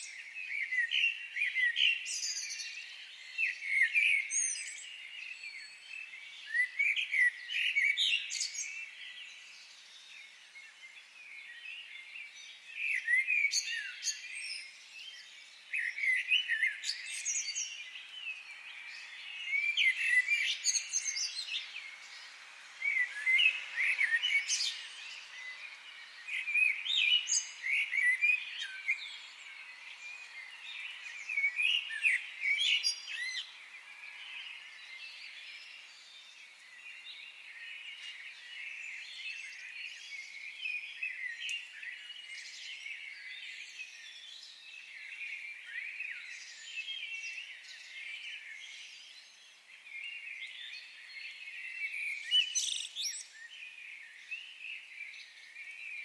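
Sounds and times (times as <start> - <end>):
high background bird chorus: 0.0 - 56.0
birds chirping and whistling: 10.2 - 56.0.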